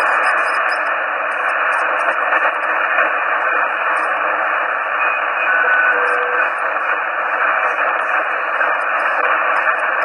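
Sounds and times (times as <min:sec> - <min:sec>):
radio receiver hiss: 0:00.0 - 0:10.0.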